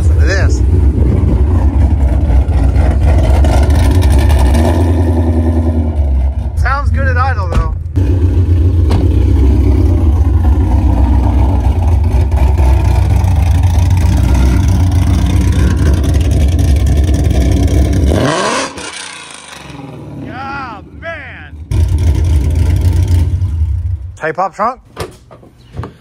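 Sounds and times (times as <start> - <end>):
car engine idling: 0.0 - 24.3.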